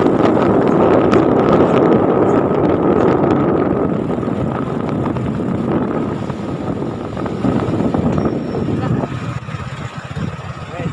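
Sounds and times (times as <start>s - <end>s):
heavy vehicle engines rumbling: 0.0s - 10.9s.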